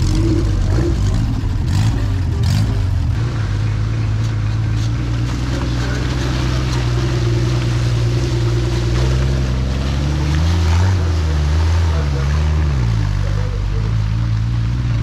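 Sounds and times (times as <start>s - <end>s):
engine revving under load: 0.0s - 15.0s.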